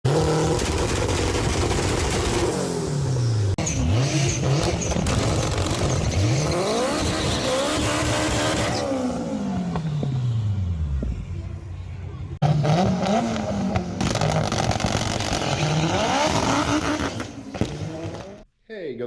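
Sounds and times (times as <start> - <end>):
race car engine revving: 0.1 - 11.0, 12.4 - 18.4.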